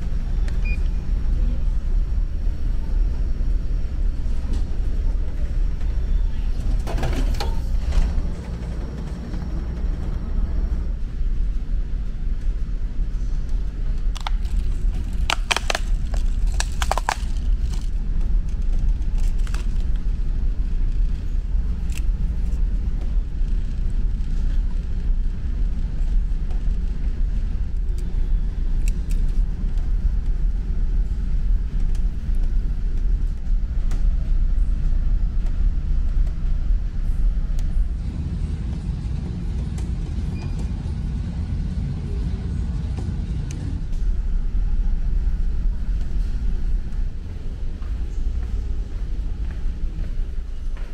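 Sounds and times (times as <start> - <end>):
ferry engines droning: 0.0 - 50.9.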